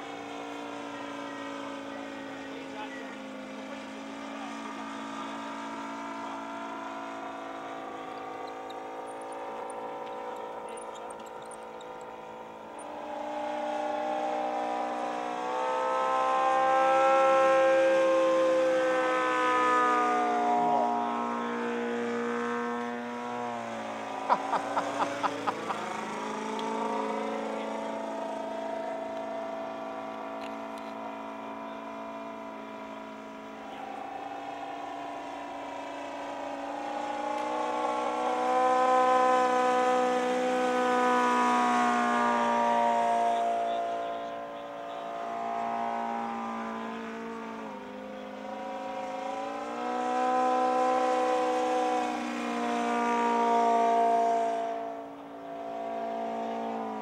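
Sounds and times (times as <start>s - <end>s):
model airplane engine droning: 0.0s - 57.0s.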